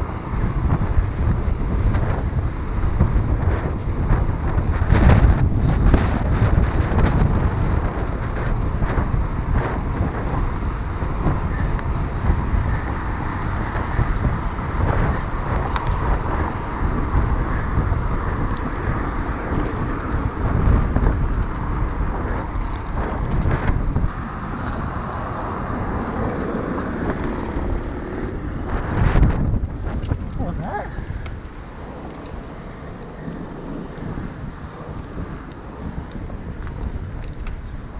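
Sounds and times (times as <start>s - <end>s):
bicycle tyre noise: 0.0s - 37.9s
wind rumbling on microphone: 0.0s - 37.9s
car traffic passing: 6.2s - 37.9s.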